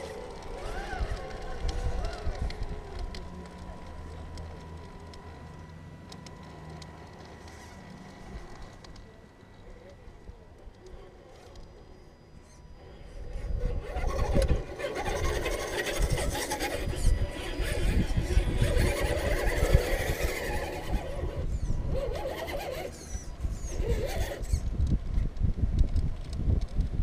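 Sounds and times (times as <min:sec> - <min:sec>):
toy car electric motor whining: 0:00.0 - 0:05.2, 0:07.2 - 0:24.7.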